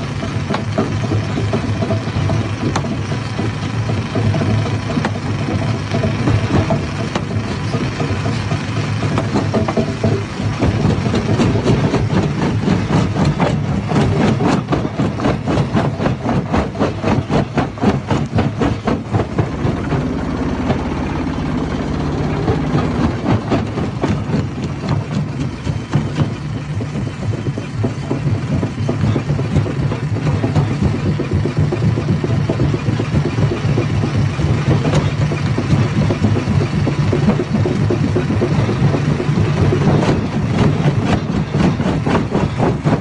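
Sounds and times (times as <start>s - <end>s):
stone crusher machine drone: 0.0s - 43.0s.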